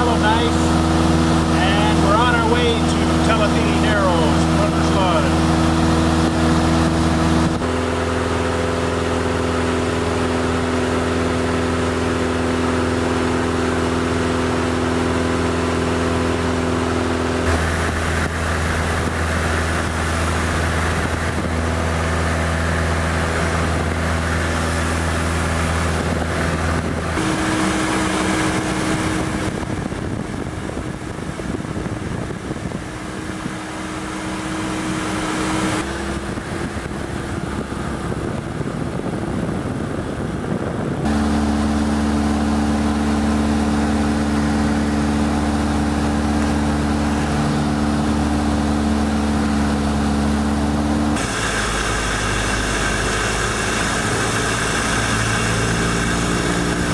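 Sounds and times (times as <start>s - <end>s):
propeller plane engine in cabin: 0.0s - 56.9s.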